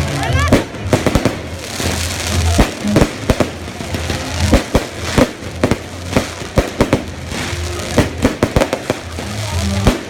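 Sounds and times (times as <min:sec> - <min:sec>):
fireworks bangs: 0:00.1 - 0:10.0.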